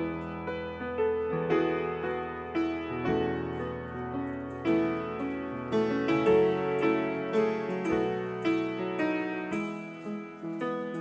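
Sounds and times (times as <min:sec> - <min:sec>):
slow gentle piano melody: 0:00.0 - 0:11.0.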